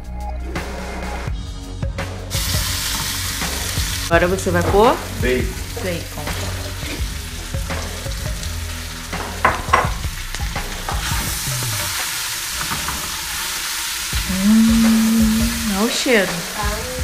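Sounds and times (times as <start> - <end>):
sausage sizzling in a pot: 2.3 - 17.0.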